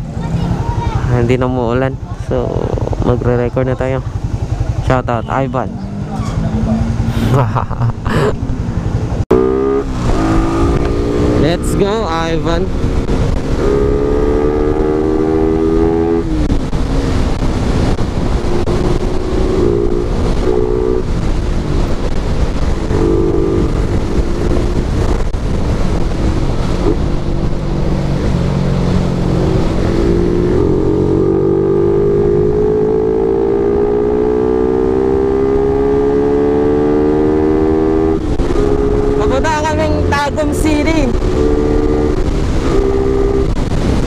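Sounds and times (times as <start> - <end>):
motorcycle engine: 0.0 - 44.0
wind and road noise: 0.0 - 44.0.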